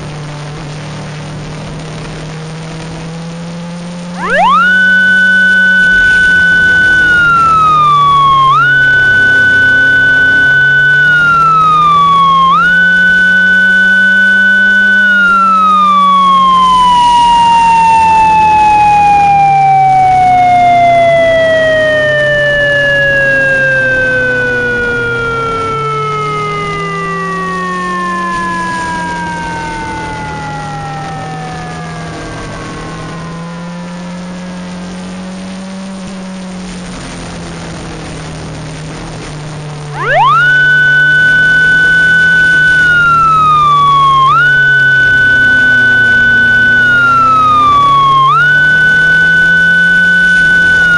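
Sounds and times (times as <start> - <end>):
low wavering engine hum: 0.0 - 50.9
synthesized police siren wailing: 2.3 - 38.7, 39.6 - 50.9.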